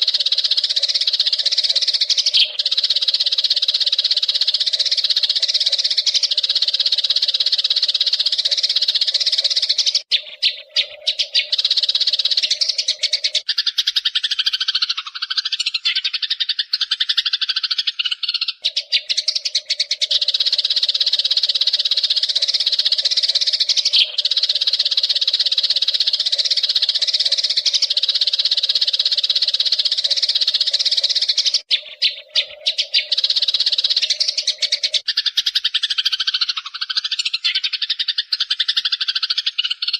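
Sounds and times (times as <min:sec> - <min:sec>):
lower gliding bird call: 0:00.0 - 0:39.9
sparrows chattering: 0:00.0 - 0:39.9.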